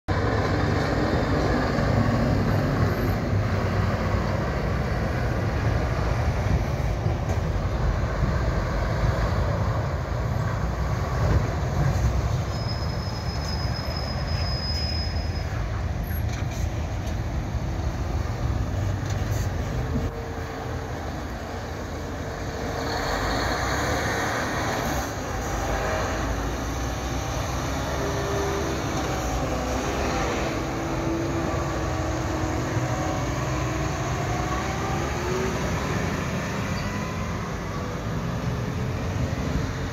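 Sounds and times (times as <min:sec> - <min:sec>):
road traffic passing: 0:00.1 - 0:39.9.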